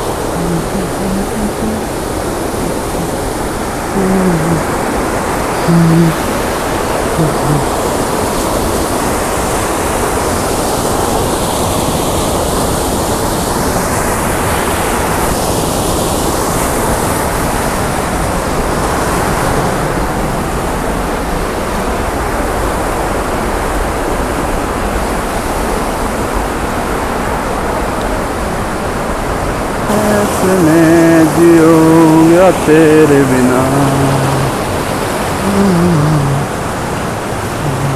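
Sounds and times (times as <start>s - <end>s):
stream rushing over boulders: 0.0s - 37.9s.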